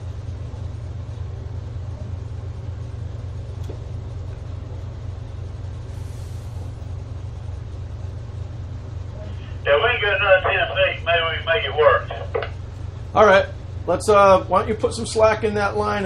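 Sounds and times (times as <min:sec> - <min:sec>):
diesel engines droning: 0:00.0 - 0:16.0.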